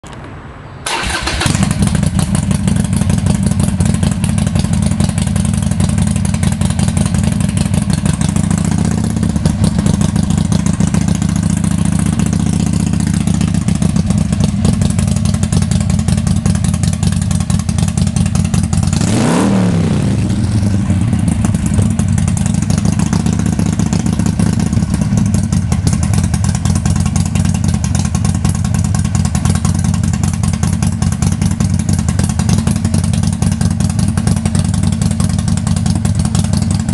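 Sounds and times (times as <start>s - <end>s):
motorcycle engine idling and revving: 0.9s - 36.9s.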